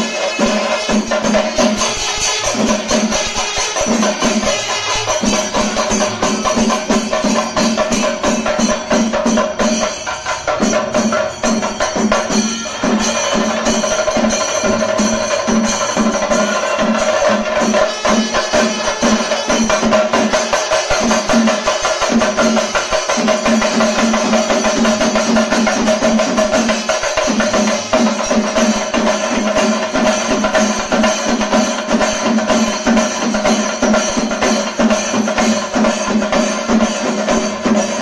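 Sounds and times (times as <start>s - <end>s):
drums in fast rhythm: 0.0s - 38.0s
metallic jangle: 0.0s - 38.0s.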